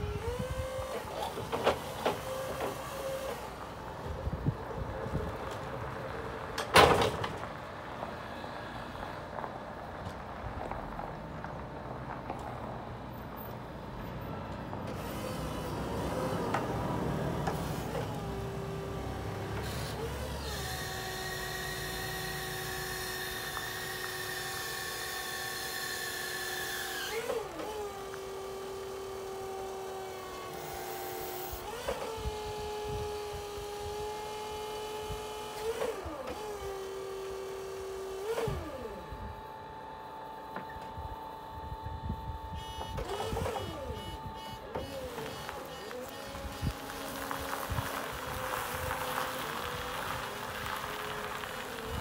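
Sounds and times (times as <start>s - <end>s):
hydraulic pump motor whine: 0.0s - 6.8s, 13.6s - 52.0s
low mechanical noise: 0.0s - 52.0s.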